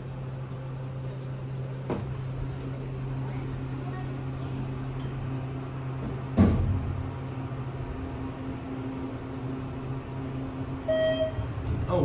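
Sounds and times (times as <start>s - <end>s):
elevator humming: 0.0s - 12.0s.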